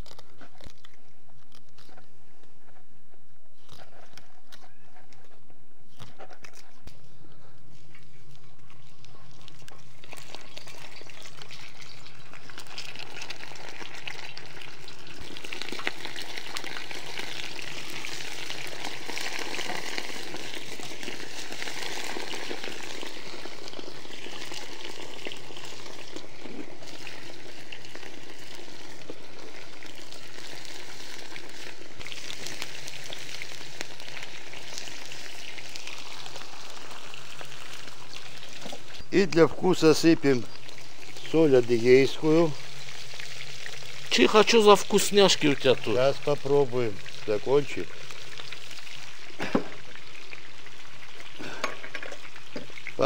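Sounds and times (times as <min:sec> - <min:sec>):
food sizzling in hot fat: 0:08.0 - 0:53.0.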